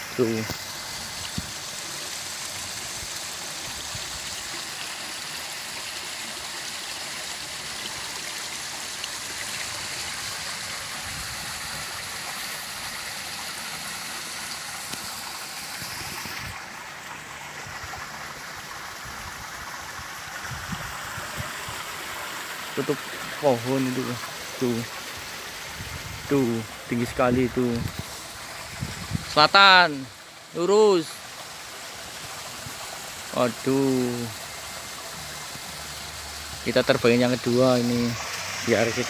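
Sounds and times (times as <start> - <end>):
rushing outdoor background hiss: 0.0 - 39.0.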